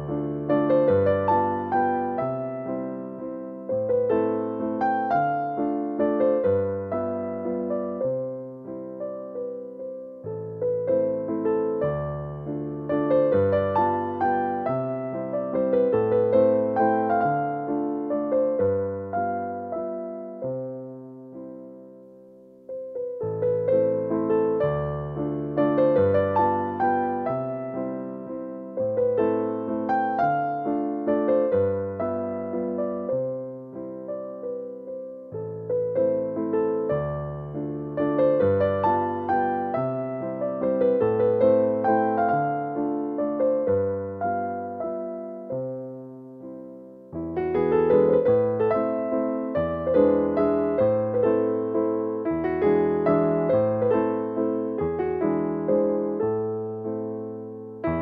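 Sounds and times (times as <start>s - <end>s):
gentle piano melody: 0.0s - 58.0s.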